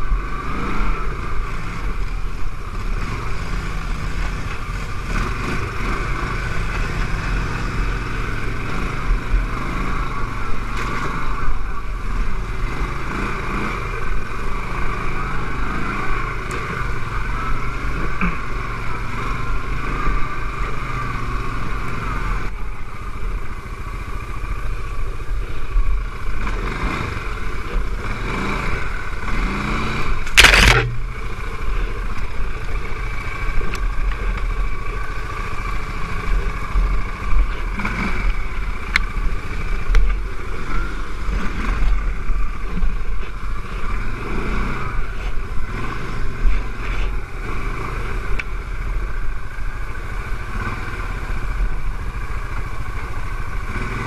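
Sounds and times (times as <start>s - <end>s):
quad engine running: 0.0s - 54.0s.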